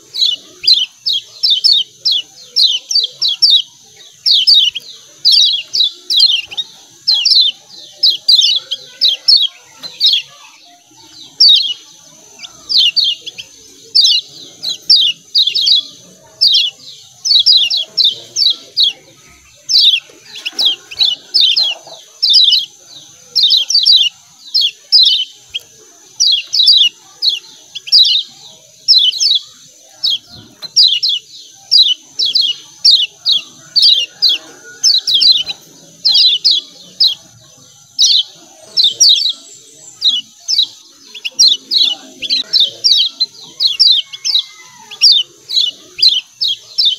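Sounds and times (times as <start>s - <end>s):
bird chip calls: 0.0s - 46.9s.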